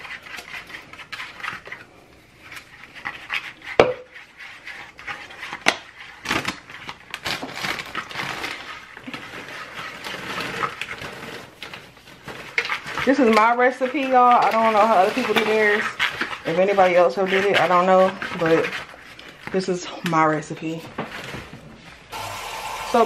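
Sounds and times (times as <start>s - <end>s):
spatula scraping and stirring sauce: 0.0s - 23.0s.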